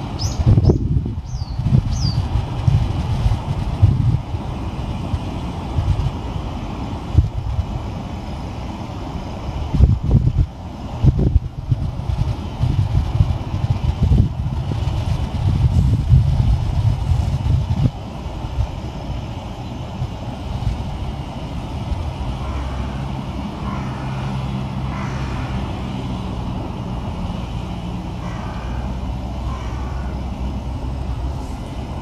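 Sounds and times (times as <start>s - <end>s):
vehicle engines rumbling: 0.0s - 32.0s.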